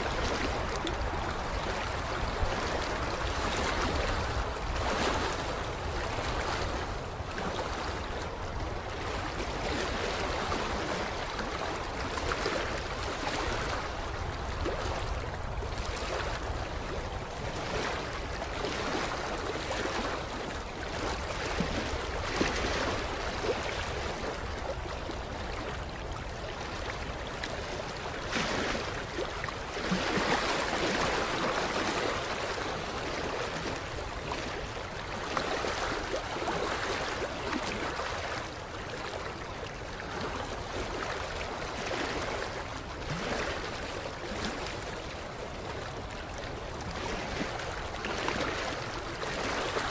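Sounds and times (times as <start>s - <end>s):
water lapping at shoreline: 0.0s - 49.9s.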